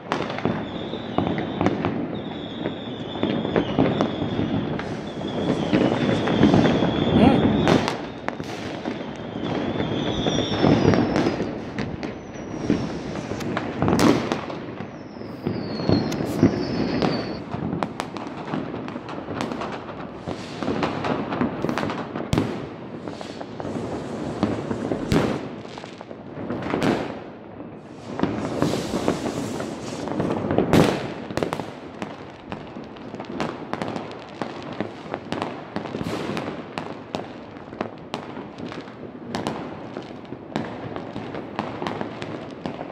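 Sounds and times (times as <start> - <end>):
descending firework whistles: 0.0 - 26.0, 26.6 - 37.2
firework rocket bursts: 0.0 - 26.0, 27.8 - 37.2
firecracker bangs: 0.0 - 27.2, 27.8 - 37.2
fireworks crackle: 0.0 - 42.9.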